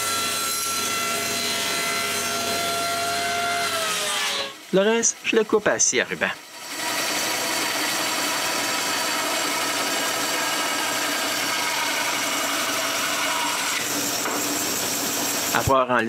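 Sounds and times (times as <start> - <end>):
bandsaw cutting wood: 0.0 - 15.8.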